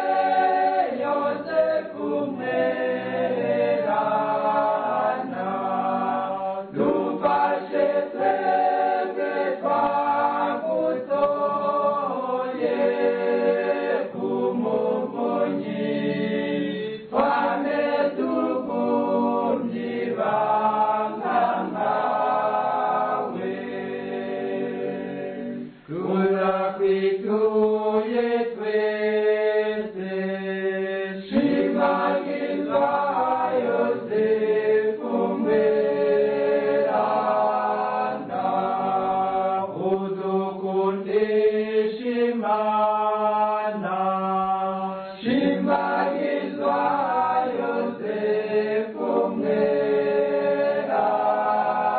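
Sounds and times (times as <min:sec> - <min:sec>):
choir singing a hymn: 0:00.0 - 0:51.9.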